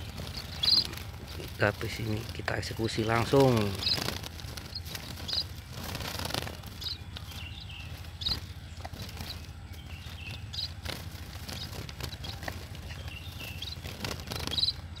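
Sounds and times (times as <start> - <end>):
birds fluttering against cage: 0.0 - 15.0.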